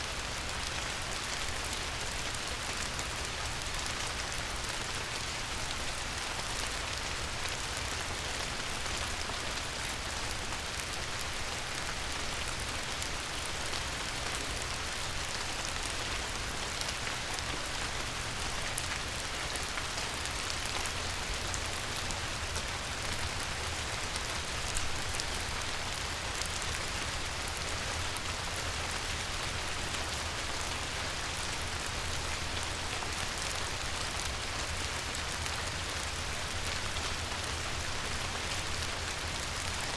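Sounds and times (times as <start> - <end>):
light rain falling on water: 0.0 - 39.9.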